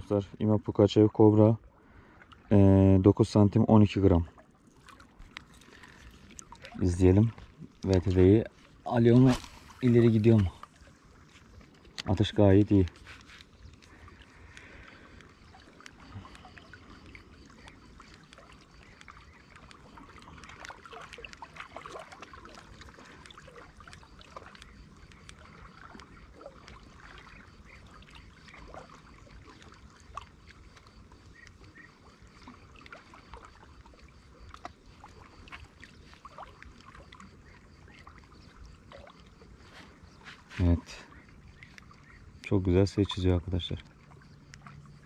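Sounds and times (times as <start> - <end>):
water lapping and splashing: 0.0 - 45.0.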